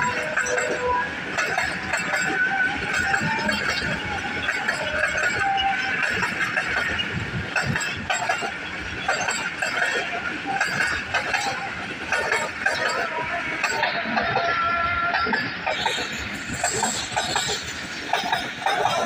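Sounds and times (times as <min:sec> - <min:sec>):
train wheels rumbling on track: 0:00.0 - 0:19.0
wheels clacking over rail joints: 0:00.0 - 0:19.0.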